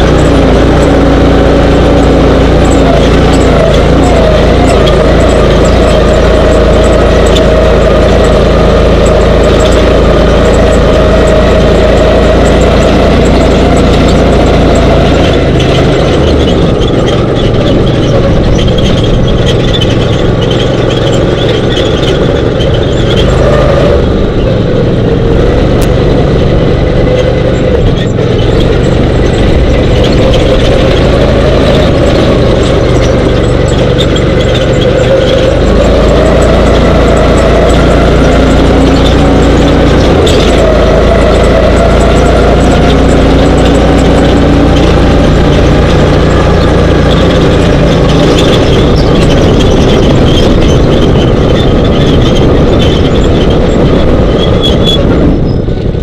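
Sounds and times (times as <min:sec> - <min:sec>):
dune buggy engine rumbling: 0:00.0 - 0:56.0.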